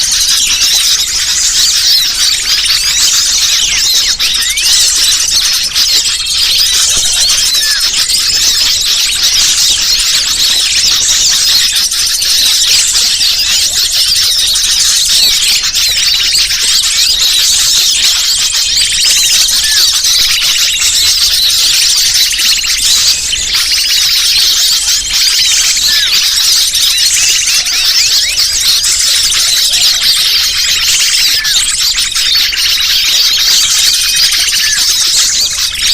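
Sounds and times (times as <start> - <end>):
small birds chirping and trilling: 0.0 - 35.9.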